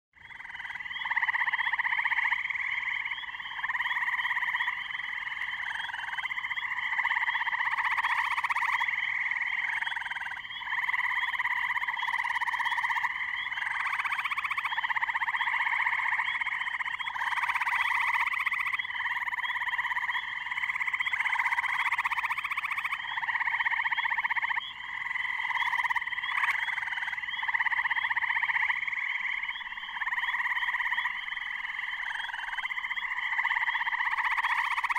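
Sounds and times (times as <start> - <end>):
tree frogs calling: 0.2 - 34.9.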